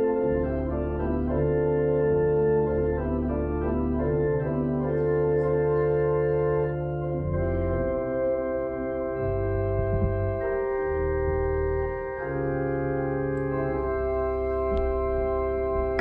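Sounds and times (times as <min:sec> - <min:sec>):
organ playing sustained chords: 0:00.0 - 0:16.0.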